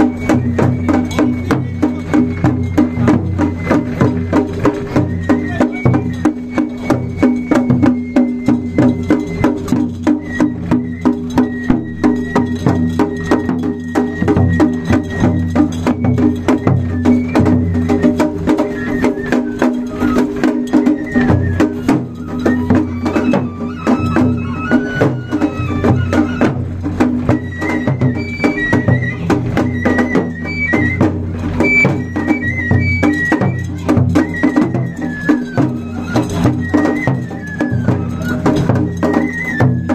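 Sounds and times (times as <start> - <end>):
high melody line: 0.1 - 39.7.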